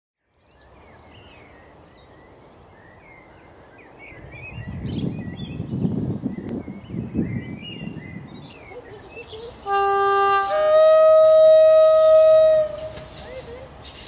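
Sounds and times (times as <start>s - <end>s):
birds chirping and singing: 0.4s - 14.0s.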